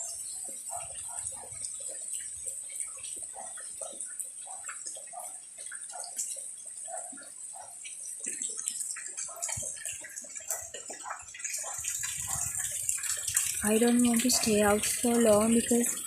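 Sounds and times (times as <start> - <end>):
light rain hissing: 0.0 - 16.0
water drops dripping and splashing: 0.0 - 16.0.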